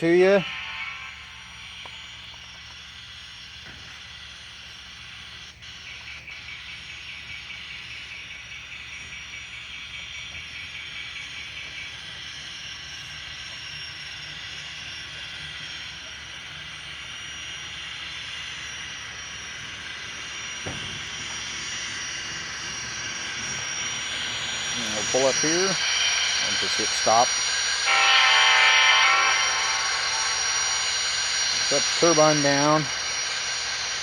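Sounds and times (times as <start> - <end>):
model locomotive turbine whine: 0.0 - 34.0.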